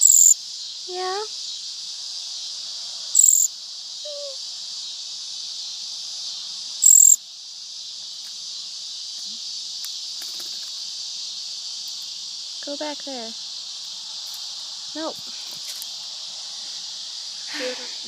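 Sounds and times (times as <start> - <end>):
chorus of crickets and insects: 0.0 - 18.0
high-pitched insect chirps: 0.0 - 18.0.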